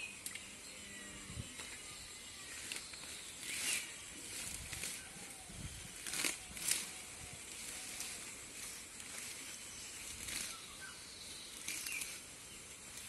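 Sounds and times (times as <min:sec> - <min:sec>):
steady outdoor hiss: 0:00.0 - 0:13.0
plants rustling: 0:02.5 - 0:13.0.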